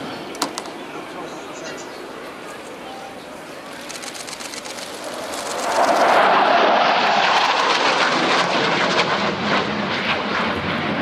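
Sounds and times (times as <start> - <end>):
jet engine flying past: 0.0 - 11.0.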